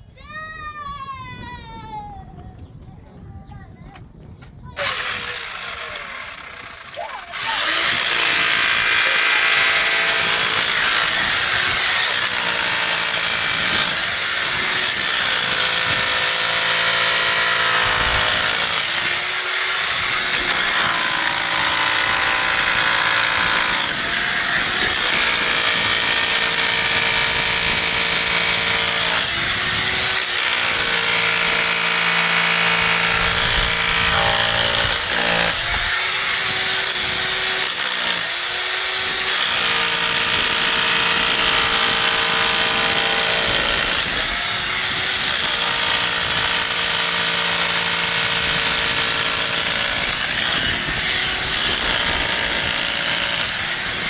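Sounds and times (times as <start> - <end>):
electric drill running: 4.8 - 54.0.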